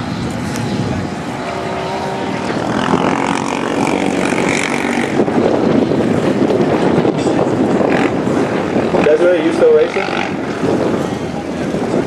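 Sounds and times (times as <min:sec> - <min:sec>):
wind on microphone: 0:00.0 - 0:12.0
quad engine revving: 0:01.0 - 0:11.0.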